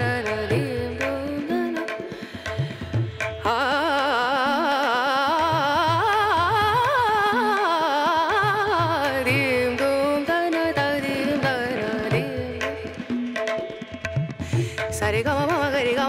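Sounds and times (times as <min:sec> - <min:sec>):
ornamented melody over drum beat: 0:00.0 - 0:16.0.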